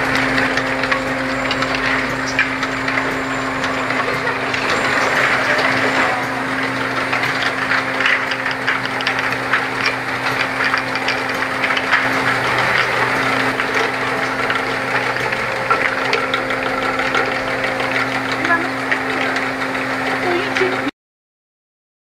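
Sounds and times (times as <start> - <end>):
glass jars clinking: 0.0 - 19.7
machine motor hum: 0.0 - 20.9.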